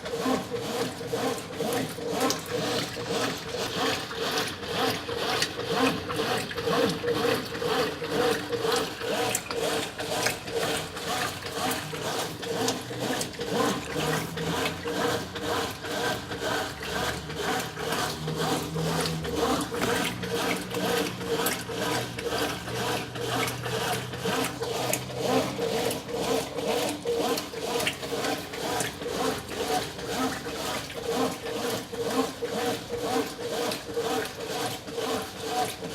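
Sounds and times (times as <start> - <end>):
motor hum: 0.0 - 35.9
washing machine churning and swishing: 0.0 - 35.9.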